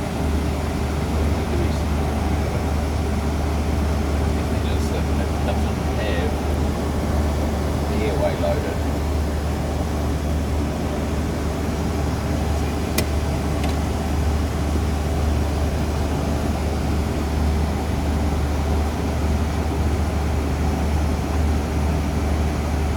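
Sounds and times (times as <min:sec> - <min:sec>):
turboprop engines droning: 0:00.0 - 0:22.9.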